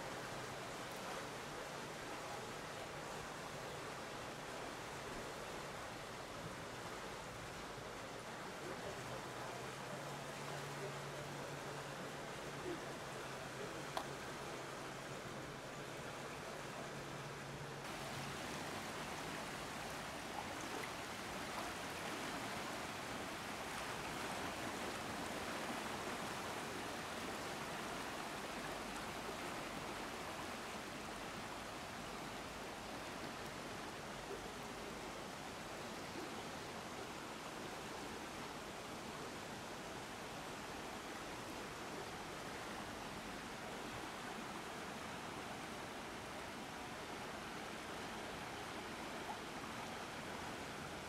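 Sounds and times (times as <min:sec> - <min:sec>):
fast-flowing river rushing: 0:00.0 - 0:51.0.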